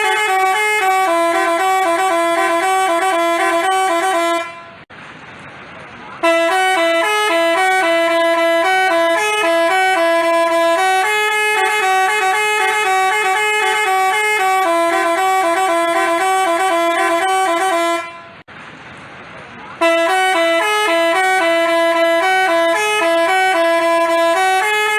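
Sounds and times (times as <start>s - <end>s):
musical bus horn melody: 0.0s - 4.9s, 6.2s - 18.5s, 19.8s - 24.9s.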